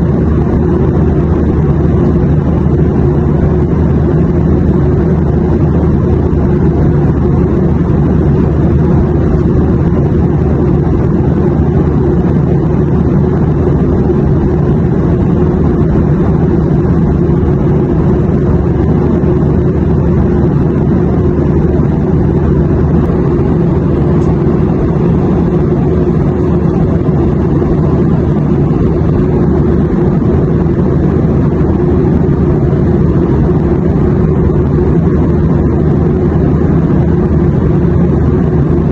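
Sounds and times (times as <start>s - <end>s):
airplane engine drone: 0.0s - 38.9s.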